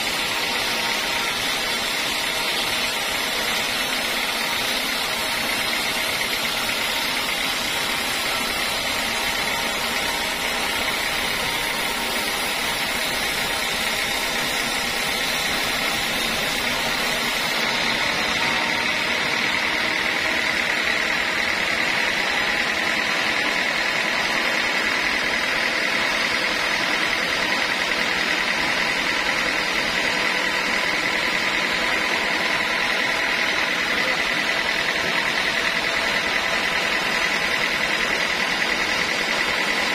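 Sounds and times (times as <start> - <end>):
band saw whining: 0.0 - 39.9
saw blade cutting log: 0.0 - 39.9.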